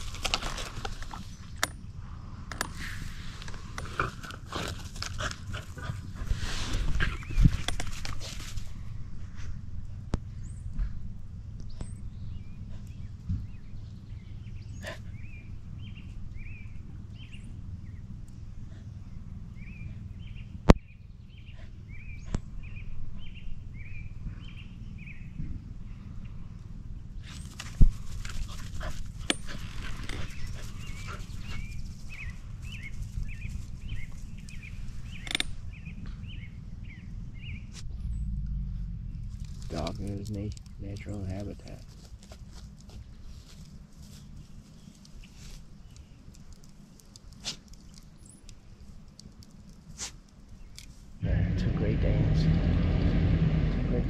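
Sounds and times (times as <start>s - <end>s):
wind rumble: 0.0s - 45.0s, 50.6s - 54.0s.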